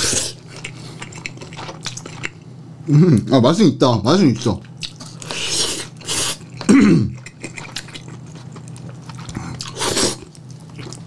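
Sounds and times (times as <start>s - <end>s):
chewing food: 0.0s - 2.4s, 4.5s - 11.0s.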